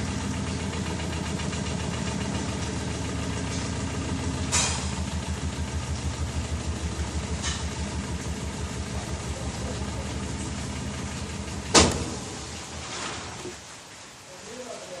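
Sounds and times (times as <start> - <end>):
washing machine motor hum: 0.0 - 13.7.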